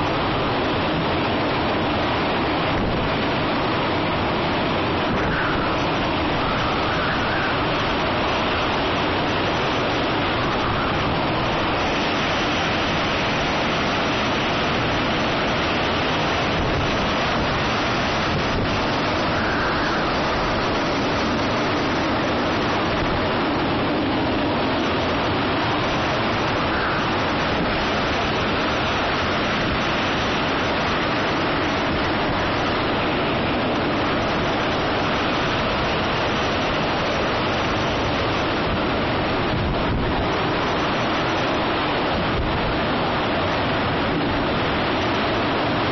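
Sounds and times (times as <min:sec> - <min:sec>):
wind and rain rushing: 0:00.0 - 0:45.9
wind whistling in gusts: 0:00.0 - 0:45.9.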